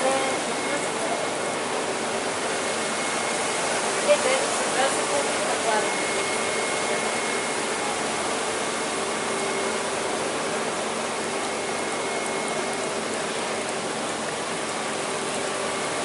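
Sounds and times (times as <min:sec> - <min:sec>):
water rushing through pump: 0:00.0 - 0:16.0.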